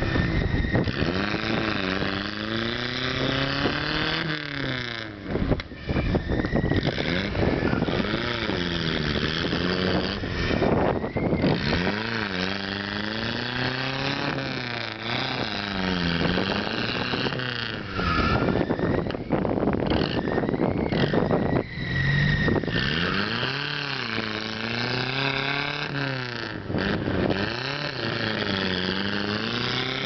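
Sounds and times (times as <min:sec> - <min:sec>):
truck engine revving: 0:00.0 - 0:30.0
wheels churning mud and water: 0:00.0 - 0:30.0.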